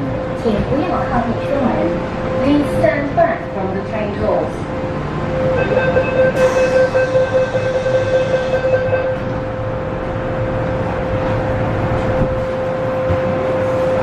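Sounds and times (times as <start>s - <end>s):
metro car rumble and hum: 0.0s - 14.0s.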